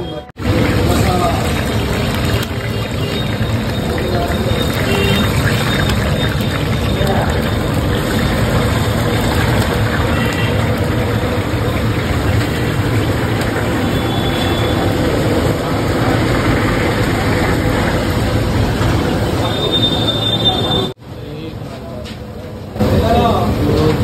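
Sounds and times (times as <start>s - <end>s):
oil sizzling: 0.4s - 20.0s.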